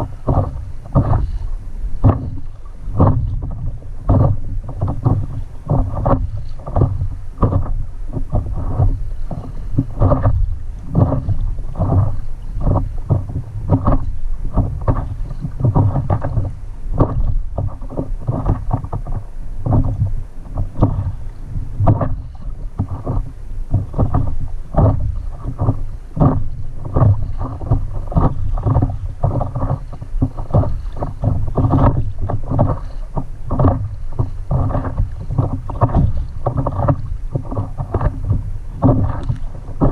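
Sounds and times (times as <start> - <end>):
water slapping against paddleboard: 0.0 - 39.9
wind rumble on microphone: 0.0 - 39.9.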